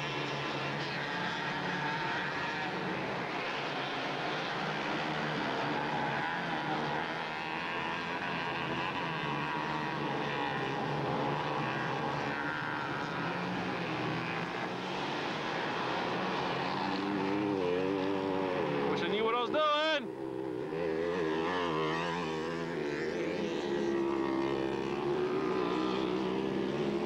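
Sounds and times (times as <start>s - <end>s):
mini bike engines running: 0.0s - 27.0s.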